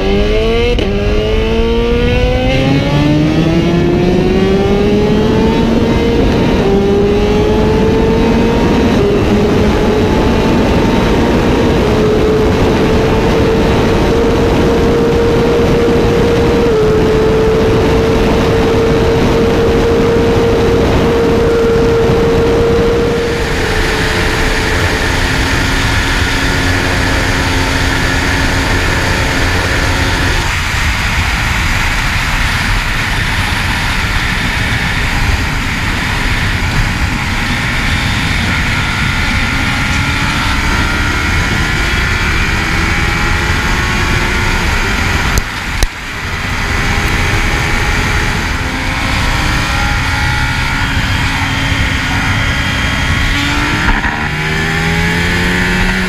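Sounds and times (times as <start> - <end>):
motorcycle engine at high speed: 0.0 - 56.0
v-twin motorcycle engine accelerating: 0.0 - 56.0
wind noise: 0.0 - 56.0.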